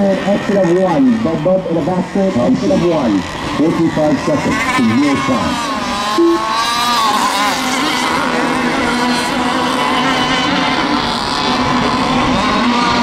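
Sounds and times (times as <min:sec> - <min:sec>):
model boat engines whining: 0:00.0 - 0:13.0.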